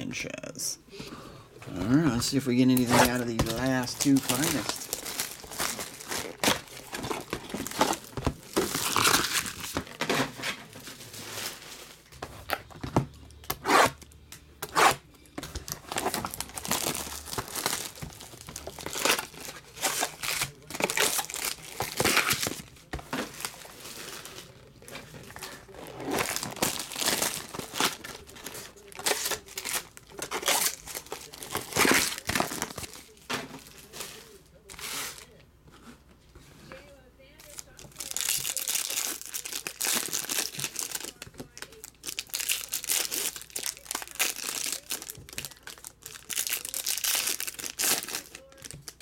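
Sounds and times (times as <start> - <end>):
card packs rustling: 1.6 - 36.1, 37.4 - 49.0
plastic shrink wrap crinkling and tearing: 1.8 - 35.4, 37.4 - 49.0.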